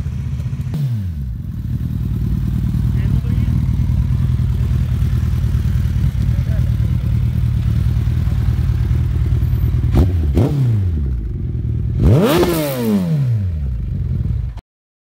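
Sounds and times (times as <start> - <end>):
motorcycle engine idling: 0.0 - 12.8, 13.5 - 14.6
motorcycle engine revving: 0.0 - 14.6.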